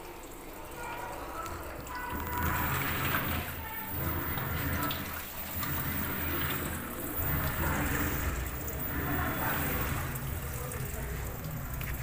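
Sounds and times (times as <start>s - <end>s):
water pouring into washing machine: 0.0s - 12.0s.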